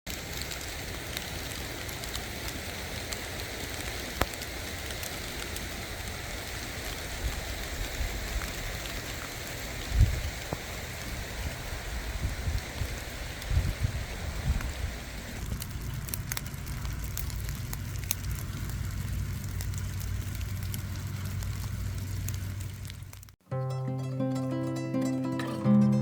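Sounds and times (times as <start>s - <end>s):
steady rain hiss: 0.1s - 23.4s.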